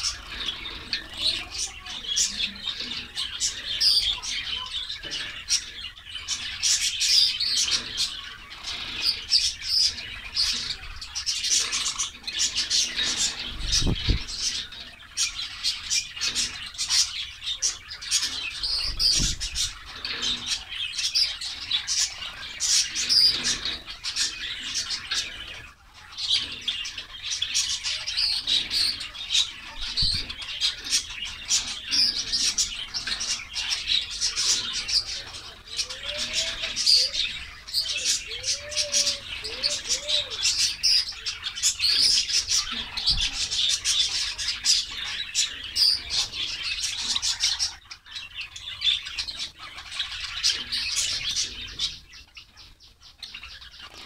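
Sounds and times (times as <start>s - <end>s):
sparrows chirping: 0.0s - 54.0s.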